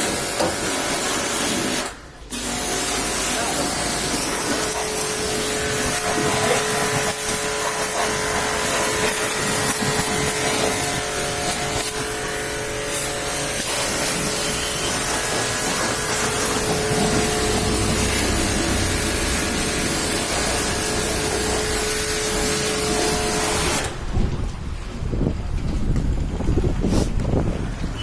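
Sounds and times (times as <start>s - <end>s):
water spray hissing: 0.0s - 24.0s
motor hum: 1.8s - 24.8s.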